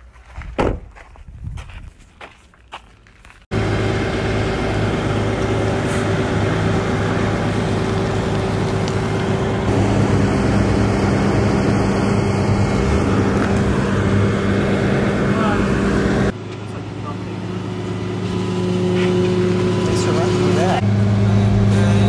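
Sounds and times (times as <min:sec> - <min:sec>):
truck engine humming: 0:03.2 - 0:22.0.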